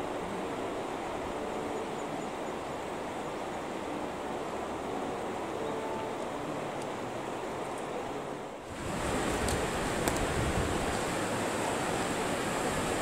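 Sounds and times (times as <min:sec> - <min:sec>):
rapids with white water: 0:00.0 - 0:13.0
river water rushing: 0:00.0 - 0:13.0.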